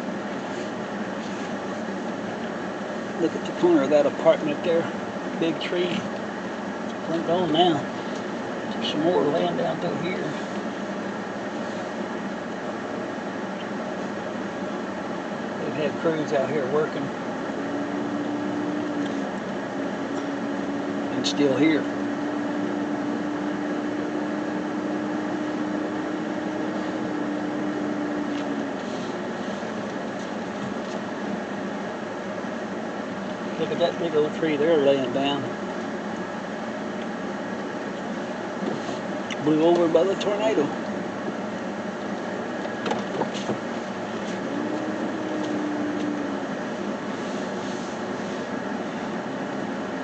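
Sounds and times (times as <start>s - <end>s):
air conditioning fan: 0.0s - 50.0s
steady droning tone: 0.0s - 50.0s
vehicle engine running: 0.0s - 50.0s.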